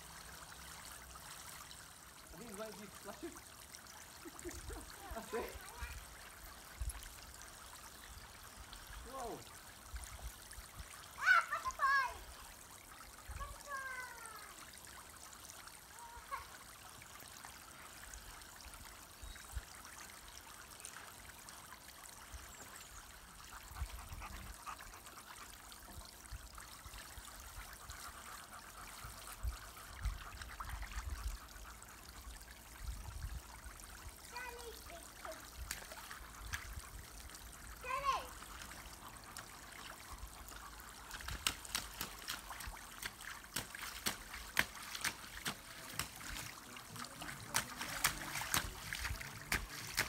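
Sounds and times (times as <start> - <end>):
water spraying from jets: 0.0 - 50.0.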